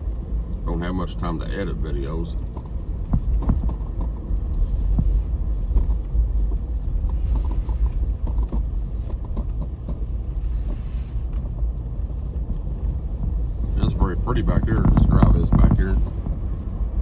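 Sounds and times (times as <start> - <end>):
road rumble inside car: 0.0 - 17.0
car interior creaks and knocks: 2.4 - 17.0.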